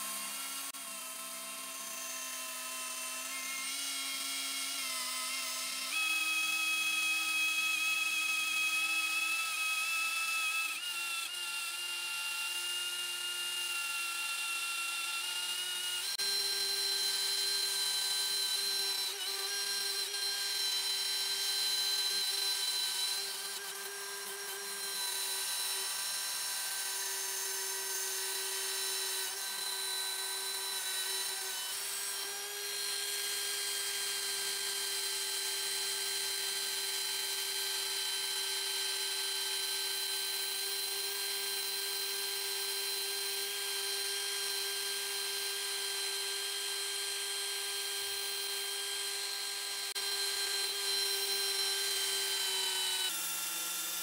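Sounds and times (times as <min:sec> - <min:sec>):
electric drill with wire brush scouring: 0:00.0 - 0:54.0.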